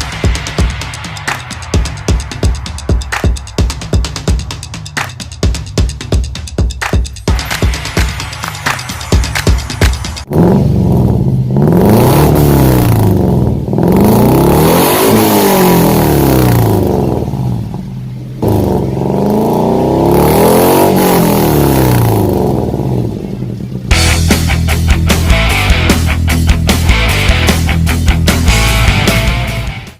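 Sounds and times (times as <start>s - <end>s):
car engine revving: 0.0s - 29.8s.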